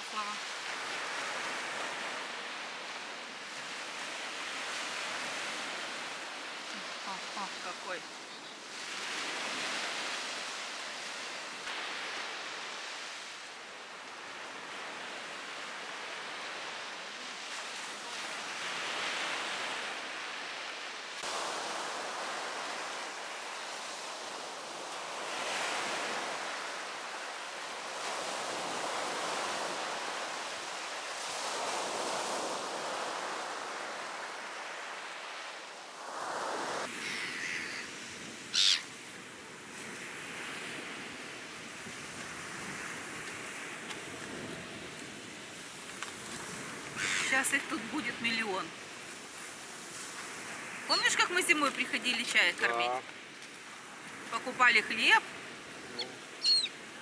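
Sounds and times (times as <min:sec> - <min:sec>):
small waves breaking on shore: 0:00.0 - 0:57.0.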